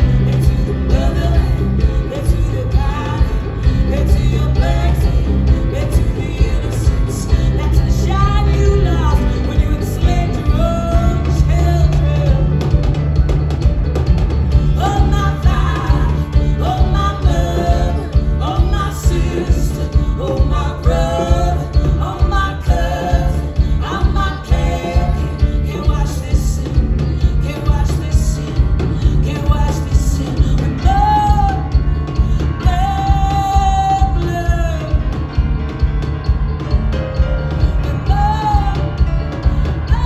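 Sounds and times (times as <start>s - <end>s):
woman singing: 0.0s - 13.0s, 14.5s - 35.5s, 37.5s - 40.0s
pulsing bass: 0.0s - 40.0s.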